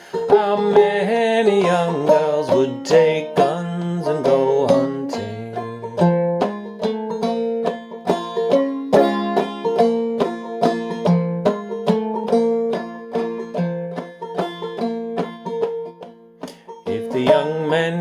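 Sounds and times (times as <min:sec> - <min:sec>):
banjo playing: 0:00.0 - 0:18.0.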